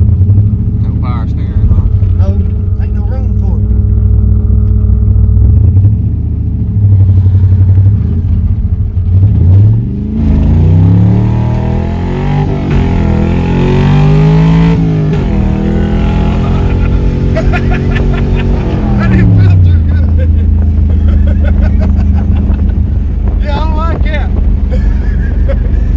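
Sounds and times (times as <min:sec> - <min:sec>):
truck engine droning: 0:00.0 - 0:25.9.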